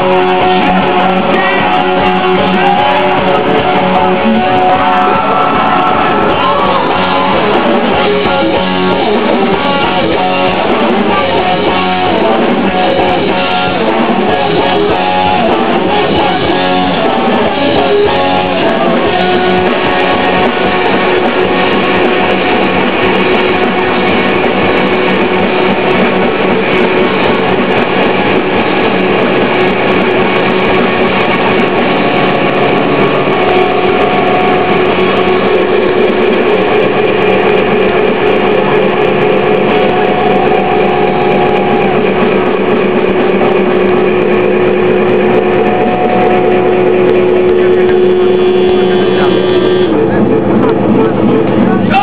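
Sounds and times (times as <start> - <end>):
distorted electric guitar drone: 0.0 - 52.0
guitar feedback tone: 0.0 - 52.0.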